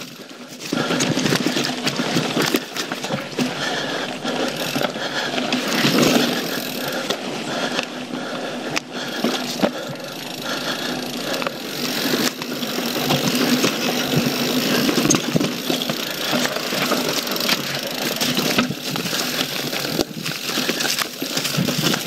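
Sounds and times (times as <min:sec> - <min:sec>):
bike knocking and rattling: 0:00.0 - 0:22.0
bike tyres rumbling on dirt: 0:00.0 - 0:22.0.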